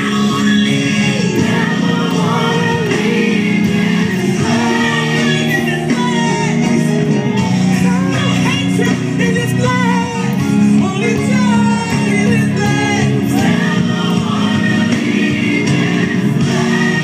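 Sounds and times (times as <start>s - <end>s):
group singing gospel music: 0.0s - 17.0s.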